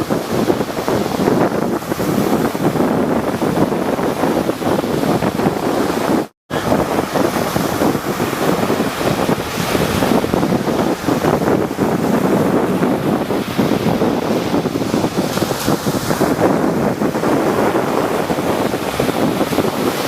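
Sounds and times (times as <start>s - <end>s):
rough sea surf breaking: 0.0s - 20.0s
wind buffeting microphone: 0.0s - 20.0s.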